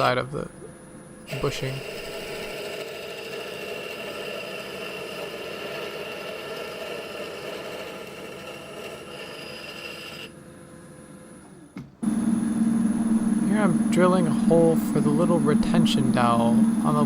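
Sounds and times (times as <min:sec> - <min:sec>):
lathe running with high whine: 0:00.0 - 0:17.0.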